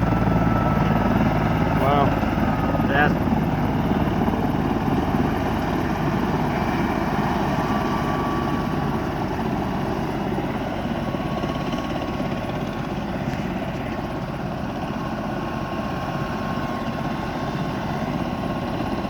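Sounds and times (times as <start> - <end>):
helicopter rotor chop: 0.0 - 19.0.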